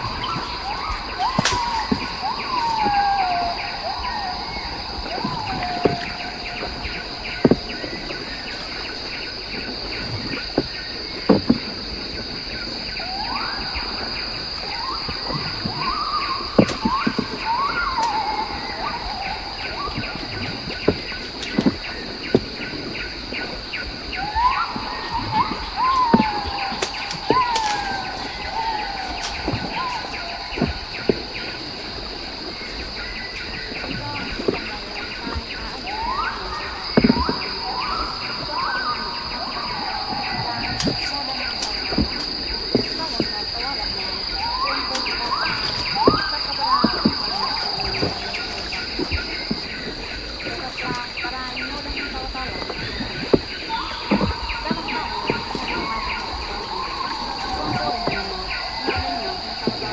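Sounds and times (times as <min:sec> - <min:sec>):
bird whistling: 0:00.0 - 0:10.9, 0:12.8 - 0:31.9, 0:32.5 - 0:52.2
high insect drone: 0:00.0 - 0:59.9
pulsing insect trill: 0:00.0 - 0:59.9.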